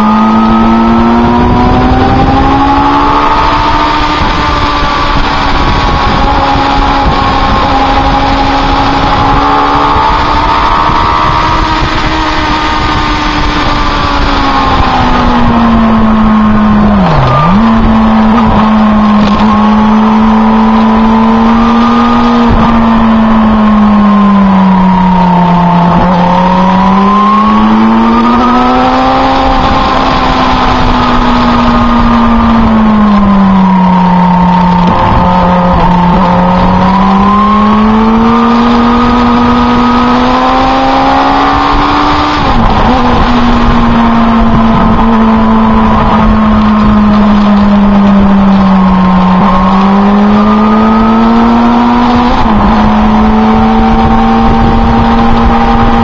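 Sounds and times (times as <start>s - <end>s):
heavy wind rush: 0.0s - 56.0s
motorcycle engine running: 0.0s - 56.0s.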